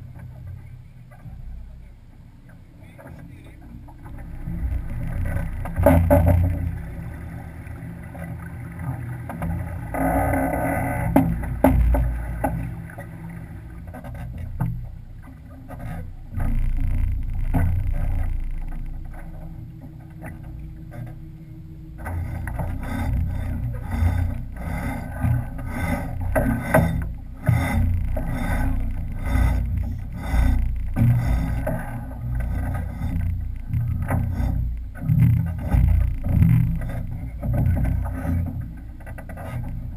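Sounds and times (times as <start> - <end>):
wind and water against boat: 0.0 - 39.9.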